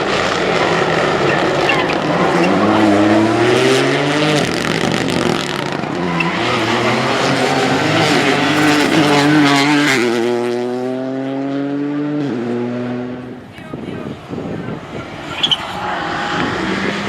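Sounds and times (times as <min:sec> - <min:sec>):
rally car engine at full throttle: 0:00.0 - 0:17.0.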